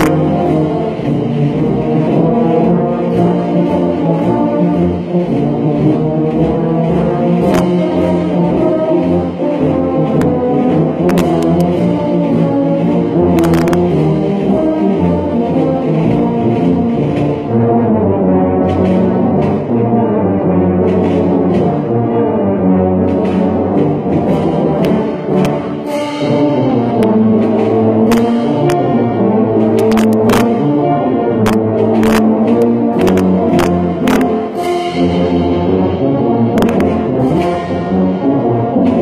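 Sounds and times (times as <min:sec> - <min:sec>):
tubas playing in harmony: 0:00.0 - 0:39.0.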